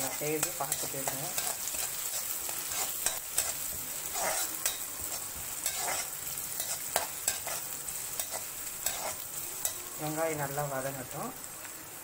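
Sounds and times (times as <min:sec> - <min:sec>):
spatula scraping pan: 0:00.0 - 0:10.1
onions sizzling in hot oil: 0:00.0 - 0:12.0.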